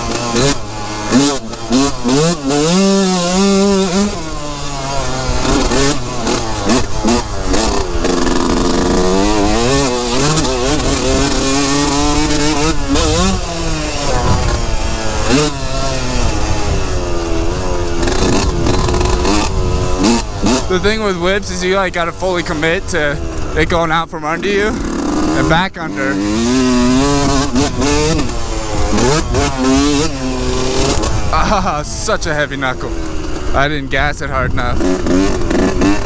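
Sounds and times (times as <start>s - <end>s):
two-stroke motorcycle engine revving: 0.0s - 36.0s.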